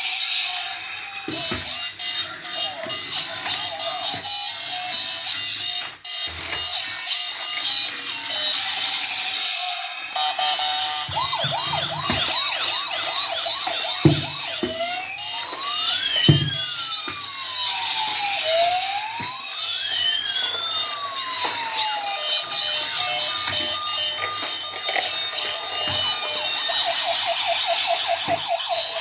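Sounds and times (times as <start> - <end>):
toy siren wailing: 0.0 - 29.0
high electronic toy tones: 0.6 - 29.0.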